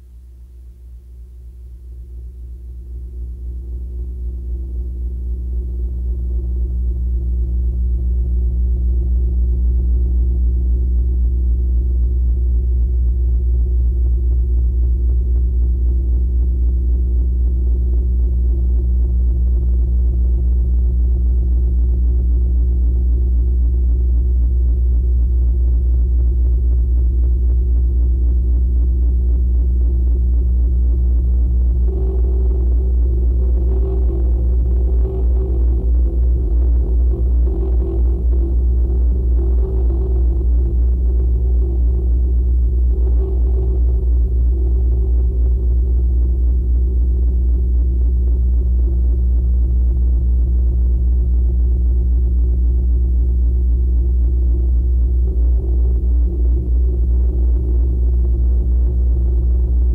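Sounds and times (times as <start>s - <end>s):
deep electronic noise drone: 0.0s - 59.9s.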